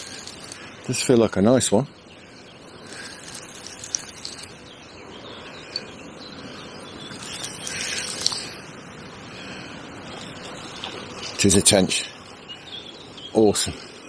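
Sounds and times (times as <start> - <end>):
faint bird chirps: 1.8 - 14.0.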